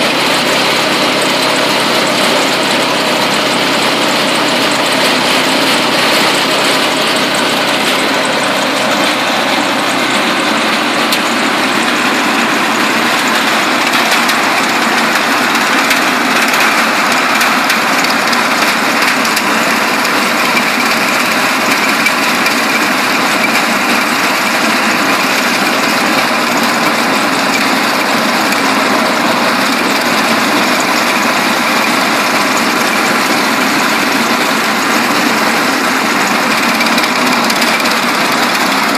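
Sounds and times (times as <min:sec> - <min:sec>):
garden chipper running: 0:00.0 - 0:38.9.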